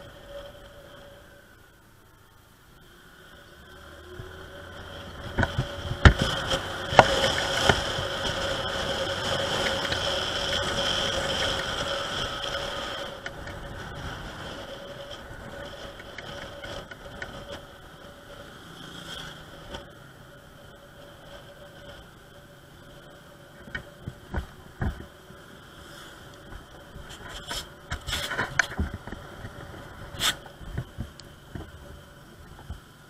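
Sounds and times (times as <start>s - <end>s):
road and wind noise: 0.0s - 33.0s
scooter engine whine: 0.0s - 33.0s.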